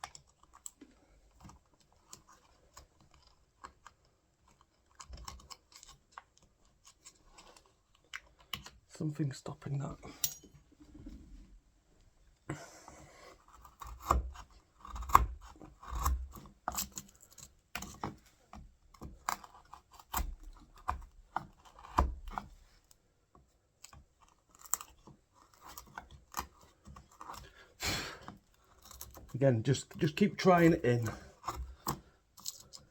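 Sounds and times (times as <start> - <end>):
chisel scraping and cutting wood: 0.0 - 8.8, 12.6 - 23.0, 23.7 - 32.9.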